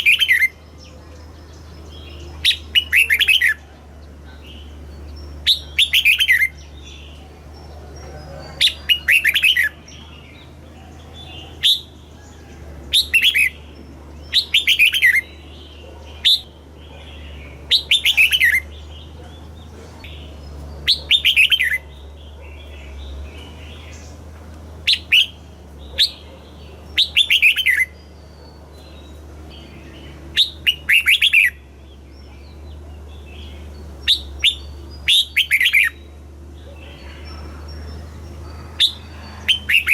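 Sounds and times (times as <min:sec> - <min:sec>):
bulbul song: 0:00.0 - 0:39.9
steady low hum: 0:00.0 - 0:39.9.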